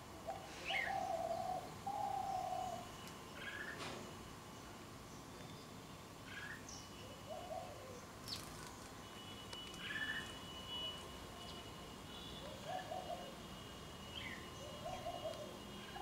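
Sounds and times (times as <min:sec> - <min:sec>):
birds chirping: 0:00.3 - 0:16.0.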